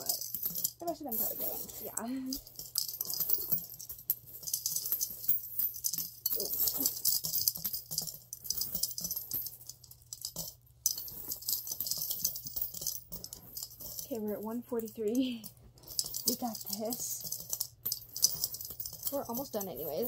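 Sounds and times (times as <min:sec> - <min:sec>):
coins clinking into piggy bank: 0:00.0 - 0:20.0.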